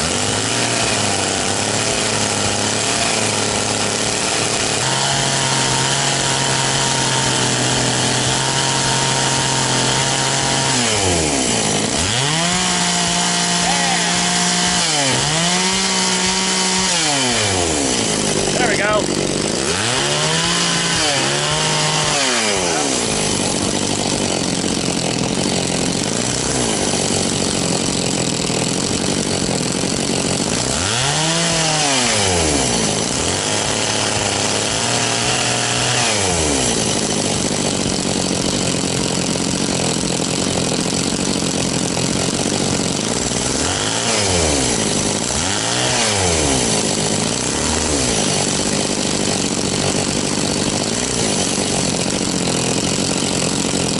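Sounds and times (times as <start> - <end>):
chainsaw idling and revving: 0.0 - 53.9.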